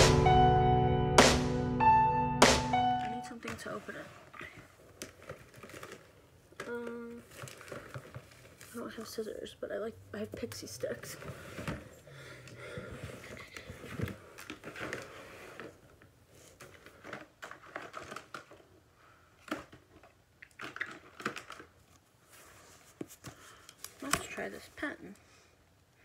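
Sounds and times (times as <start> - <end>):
rustling and crinkling: 3.2 - 25.2.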